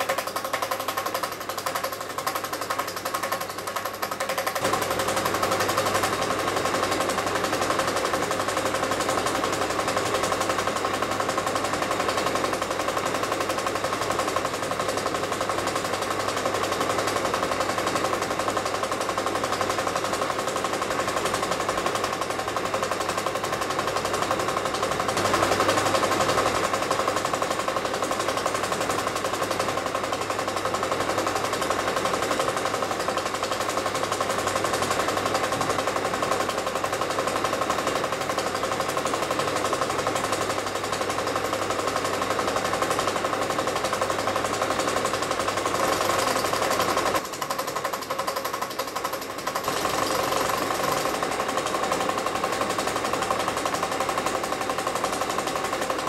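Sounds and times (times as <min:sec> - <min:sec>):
projector hum: 0:00.0 - 0:16.1, 0:23.5 - 0:56.0
film projector clatter: 0:00.0 - 0:56.0.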